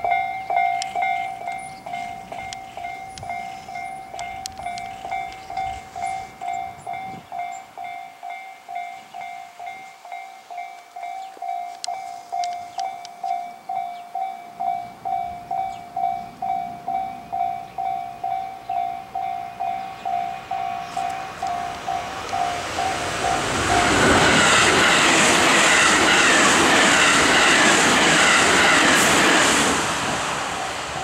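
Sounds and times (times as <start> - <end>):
level-crossing warning bell: 0.0 - 29.4.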